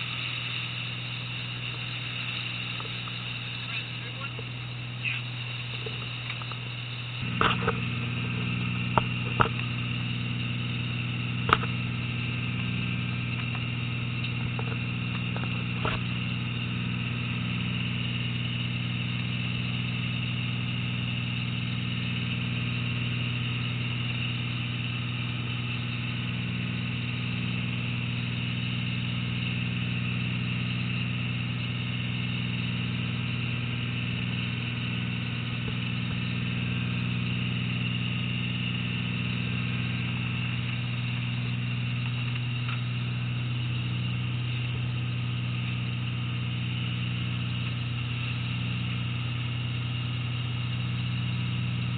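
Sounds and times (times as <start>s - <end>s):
boat engine running: 0.0s - 51.9s.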